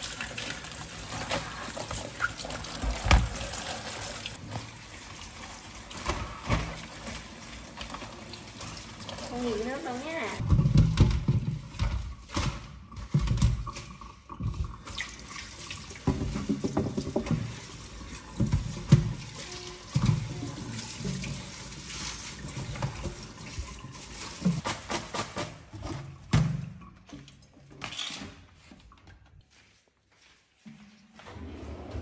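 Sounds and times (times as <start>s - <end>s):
leaves rinsed in plastic colander: 0.0s - 25.8s.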